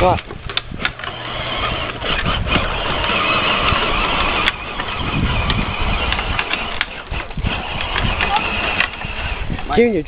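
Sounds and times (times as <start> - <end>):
plastic wheels rolling on gravel: 0.0 - 10.0
electric motors whining: 0.2 - 9.9.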